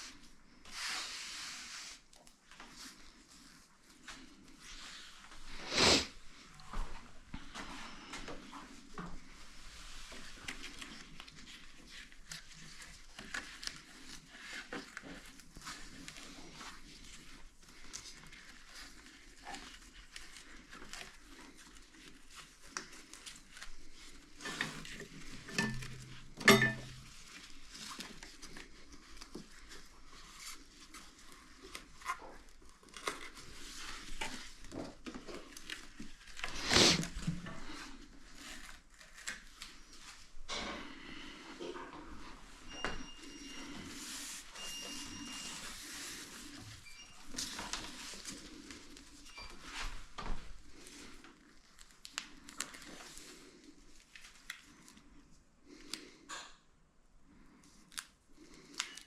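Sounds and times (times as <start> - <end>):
material crinkling and rustling: 0.0 - 5.6, 6.2 - 56.1, 57.3 - 59.0.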